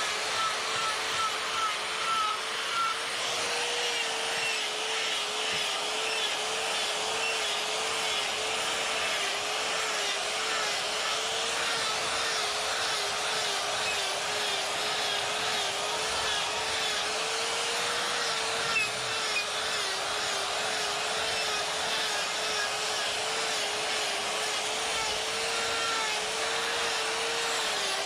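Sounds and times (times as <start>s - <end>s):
die grinder cutting wood: 0.0s - 28.0s.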